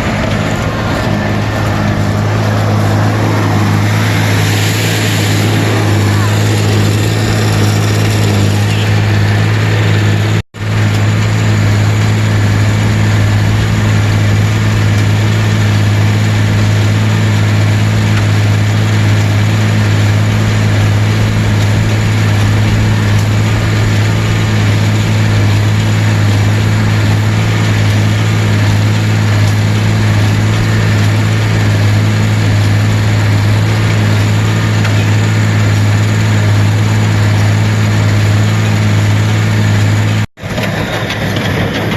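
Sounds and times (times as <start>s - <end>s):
vehicle engine droning: 0.0s - 41.9s.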